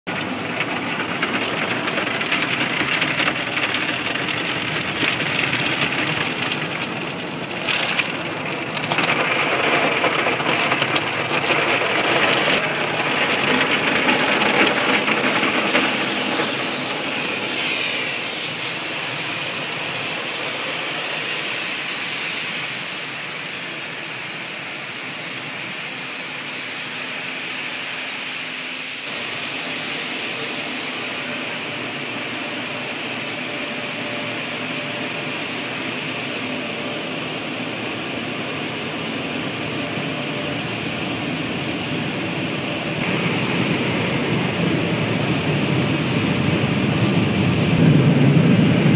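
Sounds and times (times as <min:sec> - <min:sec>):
car wash water spray: 0:00.1 - 0:48.9.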